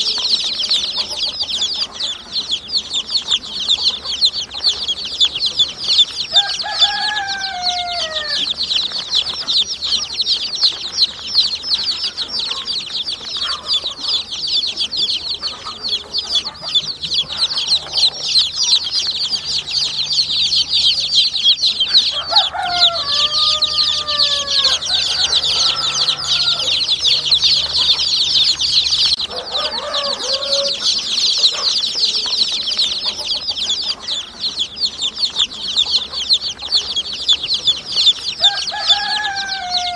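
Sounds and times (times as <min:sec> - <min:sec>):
baby chicks peeping: 0:00.0 - 0:39.9
low falling calls: 0:00.0 - 0:39.9.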